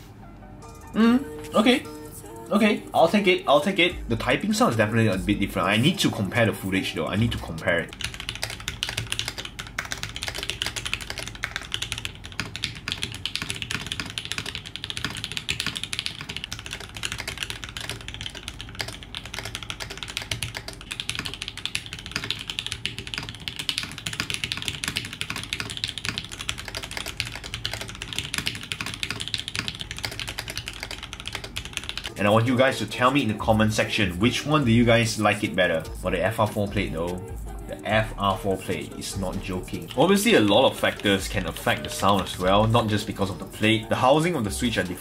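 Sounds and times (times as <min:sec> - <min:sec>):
mechanical keyboard typing: 0:05.1 - 0:37.5, 0:38.5 - 0:45.0.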